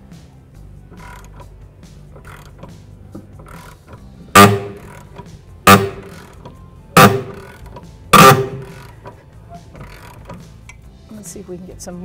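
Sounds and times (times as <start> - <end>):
ratchet pulling: 0.9 - 10.8
rusted bolt creaking: 0.9 - 10.8.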